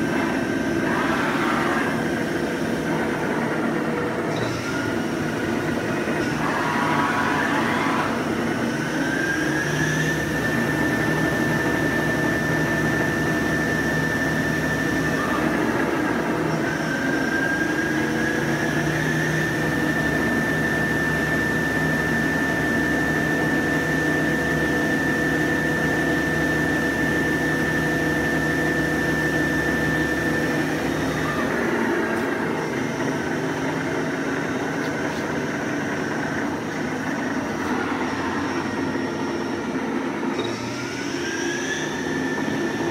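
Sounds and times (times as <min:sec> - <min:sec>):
lathe high whine: 0:00.0 - 0:42.9.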